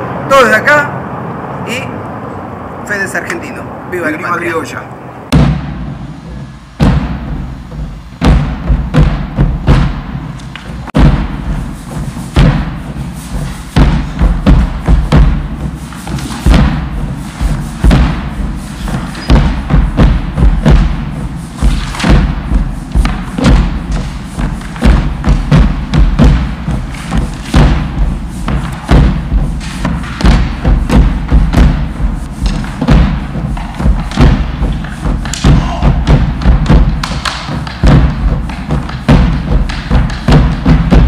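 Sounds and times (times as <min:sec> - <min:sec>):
music with thumping drum beat: 0:05.3 - 0:41.0.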